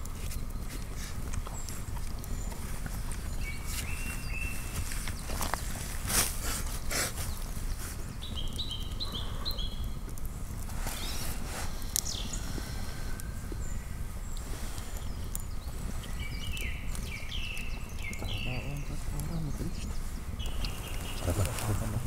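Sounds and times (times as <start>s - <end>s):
campfire crackling and snapping: 0.0s - 22.0s.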